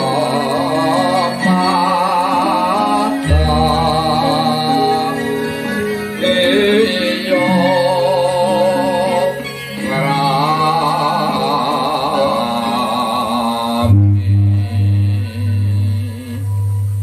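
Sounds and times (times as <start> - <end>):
gamelan music: 0.0 - 17.0
person singing wavering line: 0.0 - 17.0.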